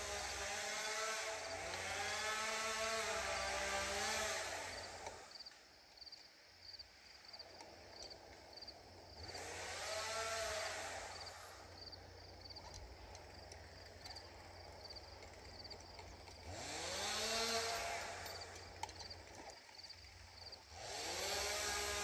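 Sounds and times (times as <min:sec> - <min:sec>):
chainsaw idling and revving: 0:00.0 - 0:05.5, 0:07.3 - 0:22.0.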